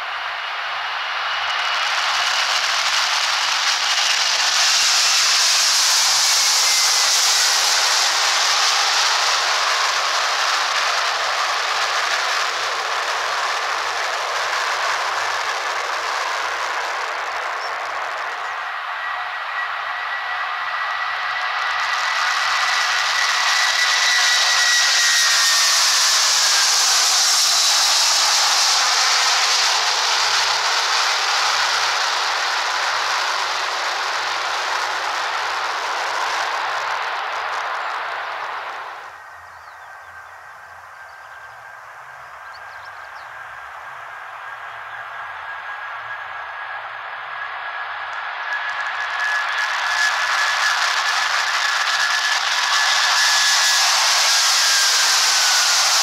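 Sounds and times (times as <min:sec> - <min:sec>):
high whine falling in pitch: 0:00.0 - 0:56.0
jet engines roaring at takeoff: 0:00.0 - 0:56.0.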